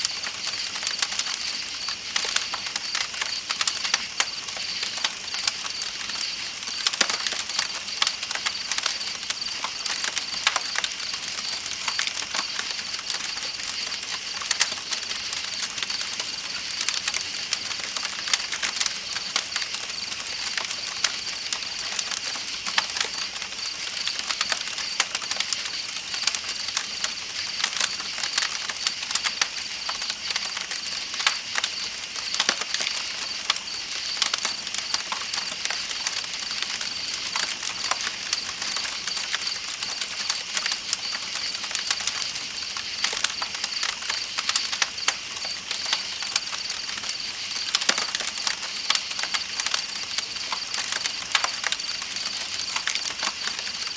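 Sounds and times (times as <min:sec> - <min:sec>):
campfire crackling and popping: 0:00.0 - 0:53.9
insects trilling: 0:00.0 - 0:53.9.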